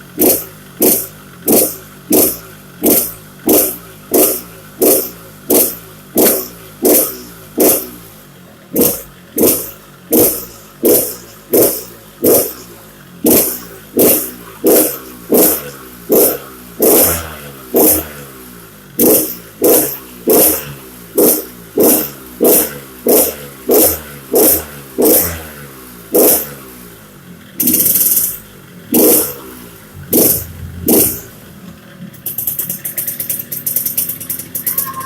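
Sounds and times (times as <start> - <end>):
motorcycle engine revving: 0.0 - 34.7.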